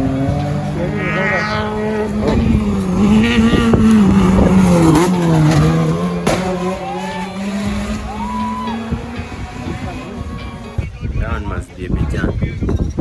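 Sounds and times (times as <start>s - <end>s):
rally car engine running hard: 0.0s - 11.3s.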